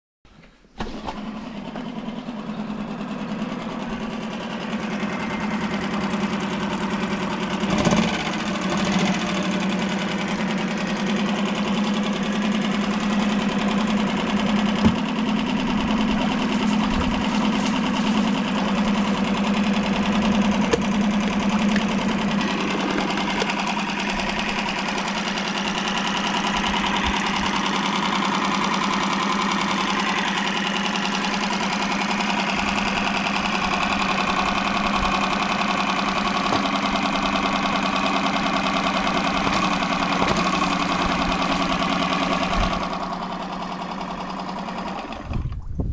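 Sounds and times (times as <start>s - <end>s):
outboard engine running: 0.8s - 45.9s.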